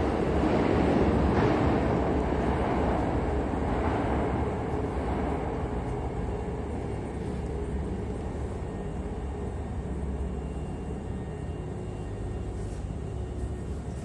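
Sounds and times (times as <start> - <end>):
faint high hum: 0.0 - 14.0
train rumbling: 0.0 - 14.0.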